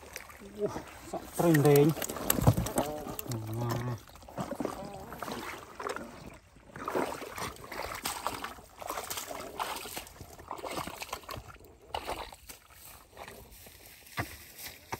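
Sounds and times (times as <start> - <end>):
muddy water sloshing and splashing: 0.0 - 14.9.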